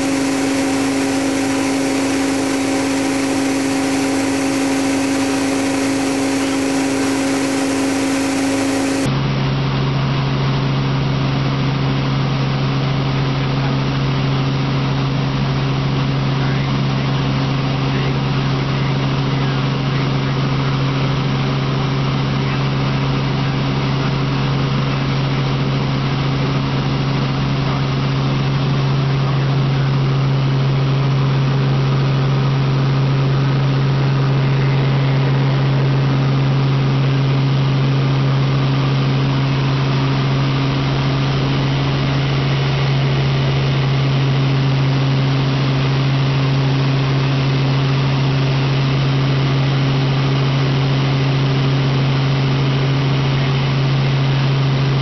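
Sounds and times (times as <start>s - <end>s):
helicopter cabin drone: 0.0s - 55.0s.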